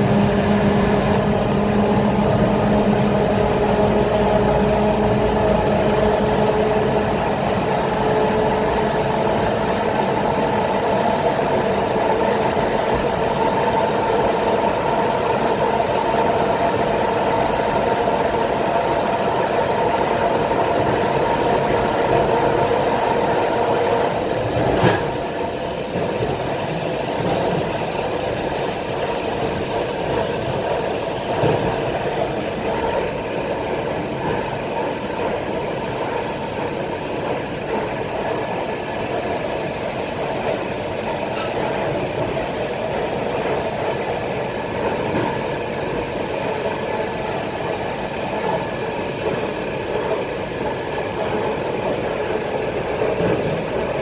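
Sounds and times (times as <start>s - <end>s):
electric train whine: 0.0s - 54.0s
train rumbling on track: 0.0s - 54.0s.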